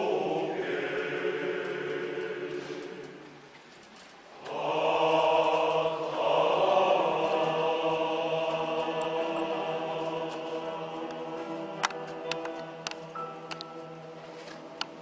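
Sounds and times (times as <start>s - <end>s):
male choir singing a chord: 0.0s - 3.3s, 4.4s - 15.0s.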